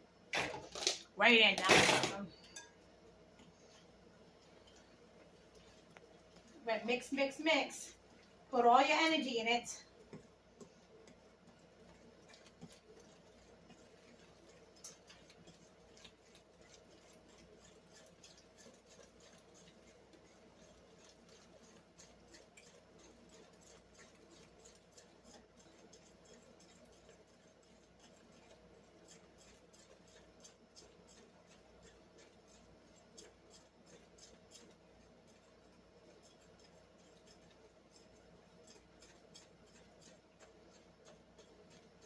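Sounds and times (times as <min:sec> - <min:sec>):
room hum: 0:00.0 - 0:42.0
spoon scraping mixing bowl: 0:00.4 - 0:42.0.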